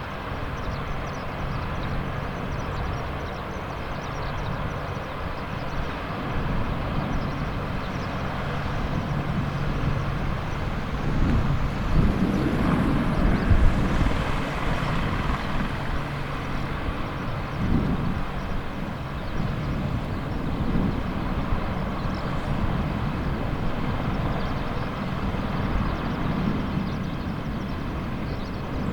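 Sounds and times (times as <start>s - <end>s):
helicopter engines and rotors: 0.0s - 28.9s.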